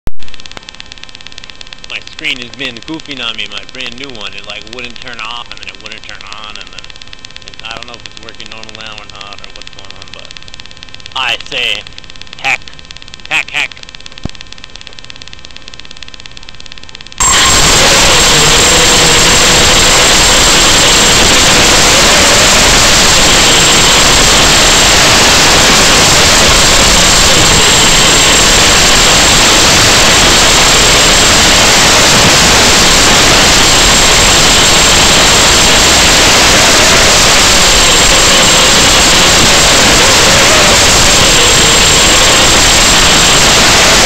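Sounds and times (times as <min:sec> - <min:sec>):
static hiss: 0:00.1 - 0:44.0
thin high whine: 0:00.1 - 0:44.0.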